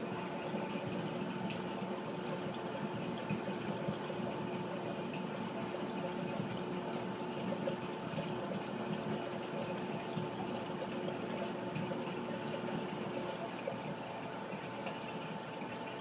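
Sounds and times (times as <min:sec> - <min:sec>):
circulating water rushing: 0:00.0 - 0:16.0
faint pump hum: 0:00.0 - 0:16.0.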